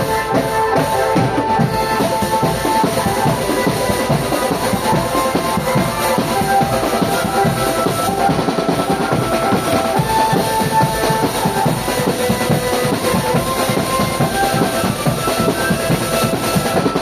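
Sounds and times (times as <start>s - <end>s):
melody of held notes: 0.0s - 17.0s
snare and bass drums drumming: 0.0s - 17.0s.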